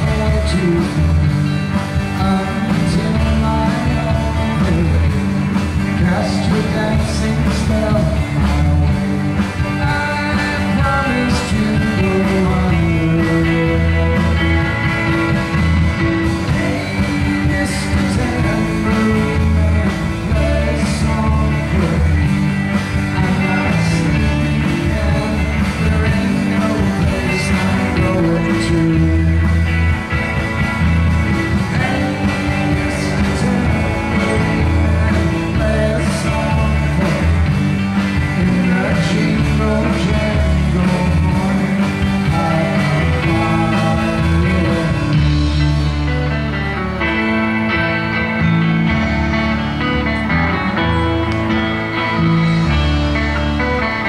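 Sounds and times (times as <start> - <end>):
man singing: 0.0 - 29.9, 31.4 - 46.3
live rock band: 0.0 - 54.0.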